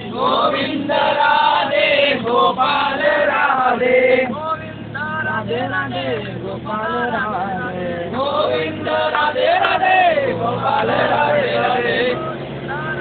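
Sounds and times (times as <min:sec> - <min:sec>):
low vehicle hum: 0:00.0 - 0:13.0
voices singing a chant: 0:00.0 - 0:13.0.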